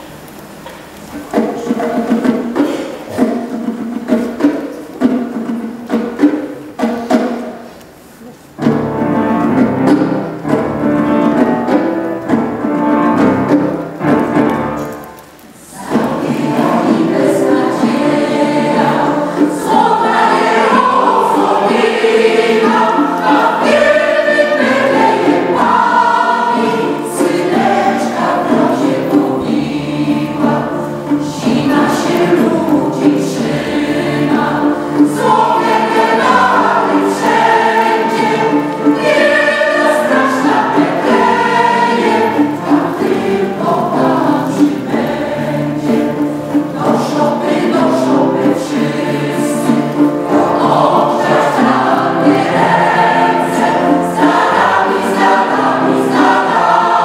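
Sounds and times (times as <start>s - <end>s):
choir singing: 8.9s - 57.0s.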